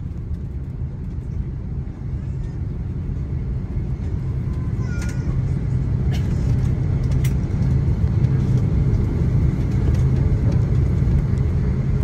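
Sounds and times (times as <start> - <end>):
airliner engines and wheels rumbling: 0.0 - 12.0.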